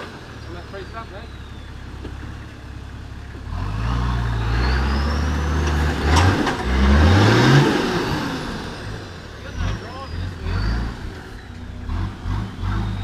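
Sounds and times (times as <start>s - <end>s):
diesel engine revving under load: 0.0s - 13.0s.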